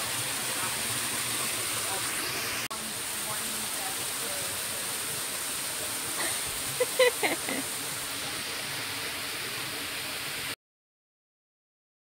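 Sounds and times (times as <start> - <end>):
steady outdoor hiss: 0.0 - 10.6.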